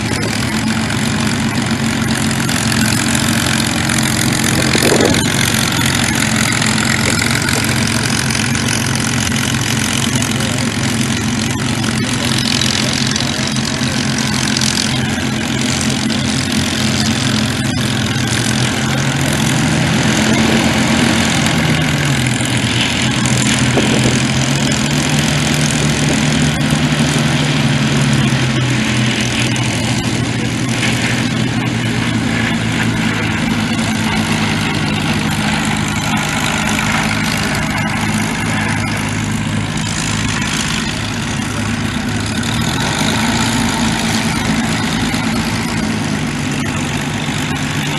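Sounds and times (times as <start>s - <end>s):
piston aircraft engines running: 0.0s - 47.9s.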